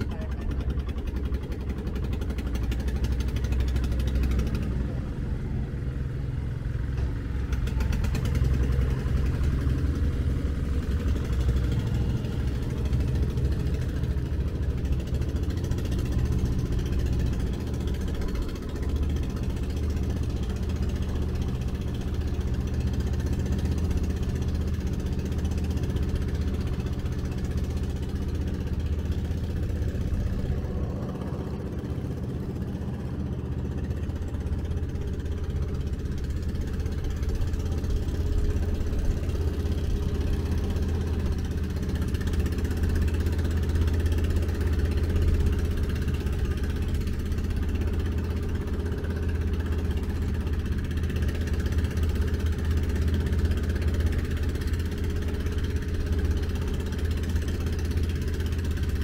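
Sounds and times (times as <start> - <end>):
ferry engine droning: 0.0 - 59.0.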